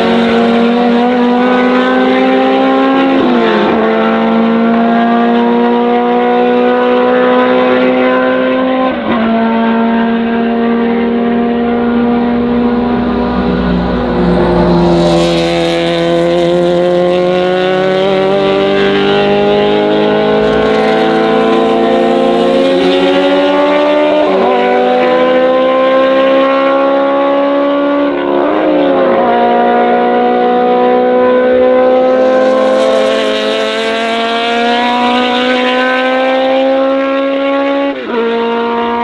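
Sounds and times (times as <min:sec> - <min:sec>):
race car engines accelerating: 0:00.0 - 0:39.0.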